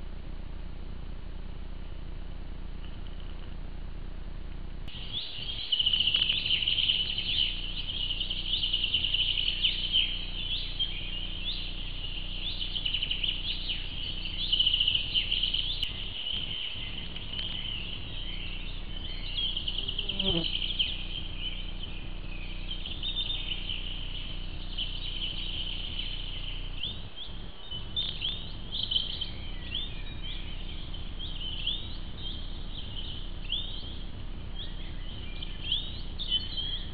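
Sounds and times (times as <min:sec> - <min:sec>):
steady low hum: 0:00.0 - 0:36.9
birds chirping and trilling: 0:04.9 - 0:36.9.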